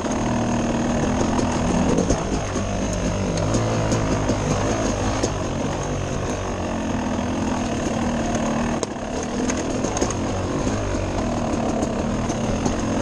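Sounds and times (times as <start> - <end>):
dirt bike engine running: 0.0 - 13.0
knocks and clatter over rocks: 0.0 - 13.0.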